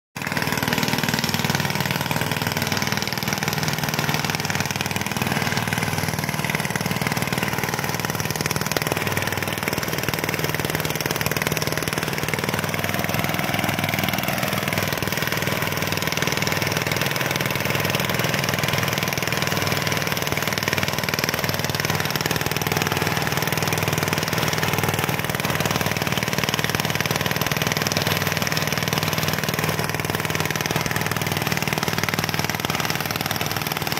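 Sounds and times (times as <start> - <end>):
small engine running: 0.2 - 33.9.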